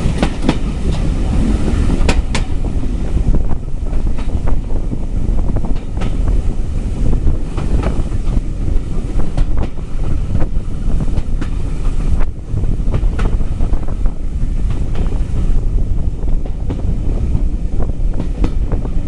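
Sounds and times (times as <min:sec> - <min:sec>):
train rumbling: 0:00.0 - 0:19.0
train wheels clicking: 0:00.0 - 0:19.0
wind buffeting microphone: 0:00.0 - 0:19.0.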